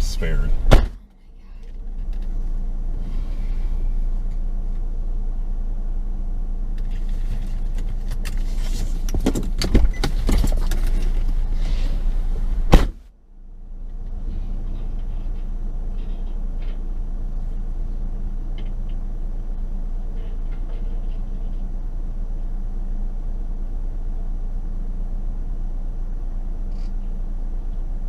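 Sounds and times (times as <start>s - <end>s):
car cabin rumble: 0.0s - 23.5s.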